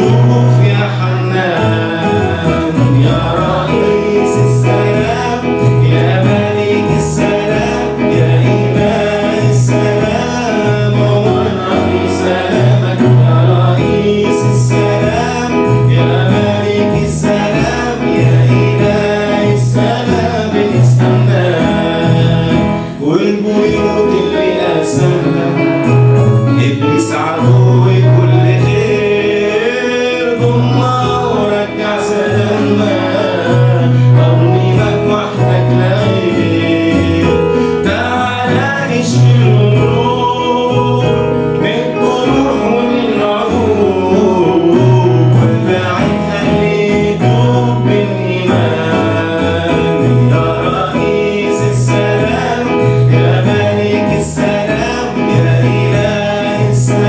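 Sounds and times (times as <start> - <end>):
electronic keyboard with beat: 0.0 - 57.0
man singing: 0.0 - 57.0.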